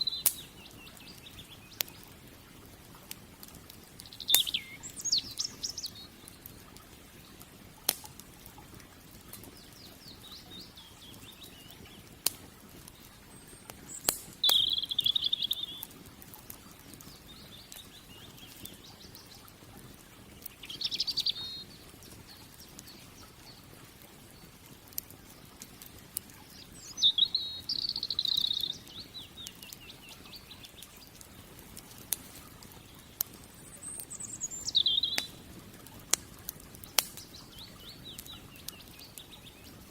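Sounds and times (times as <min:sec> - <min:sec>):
songbirds warbling: 0:00.0 - 0:39.9
wood fire crackling and popping: 0:00.0 - 0:39.9.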